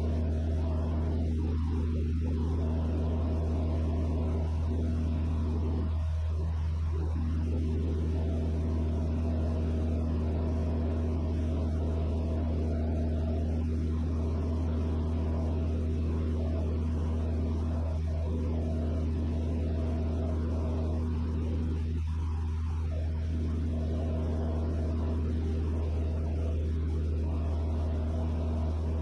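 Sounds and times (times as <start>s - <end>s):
aircraft engine and propeller drone: 0.0s - 29.0s.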